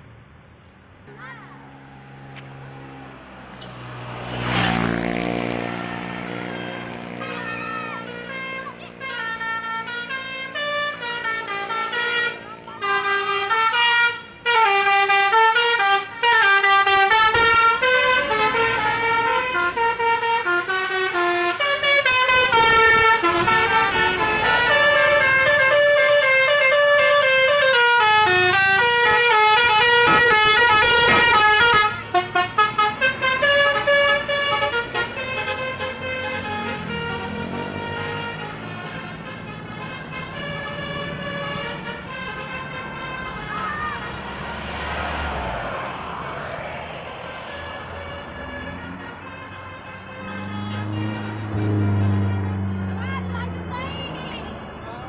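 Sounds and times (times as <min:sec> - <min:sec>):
musical air horns playing a tune: 0:03.6 - 0:44.8, 0:47.3 - 0:53.1.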